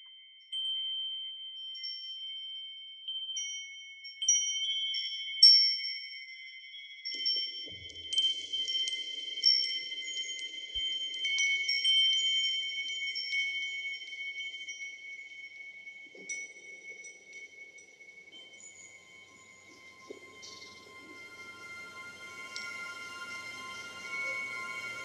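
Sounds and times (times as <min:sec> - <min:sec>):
metal wind chimes ringing: 0:00.0 - 0:25.0.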